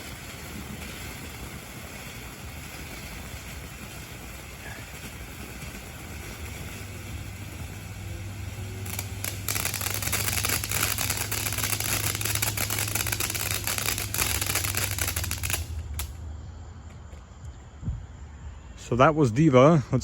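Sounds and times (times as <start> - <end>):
firework crackling: 0.0 - 17.4.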